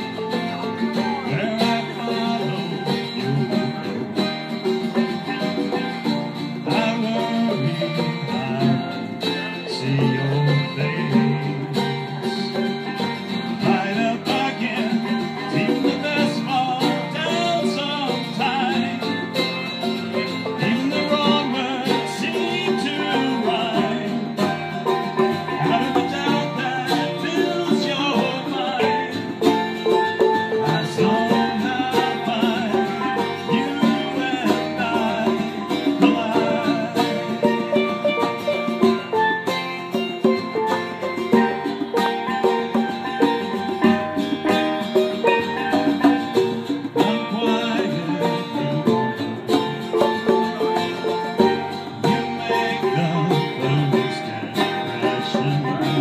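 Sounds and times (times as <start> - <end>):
conga drums: 0.0 - 56.0
strummed acoustic guitar: 0.0 - 56.0.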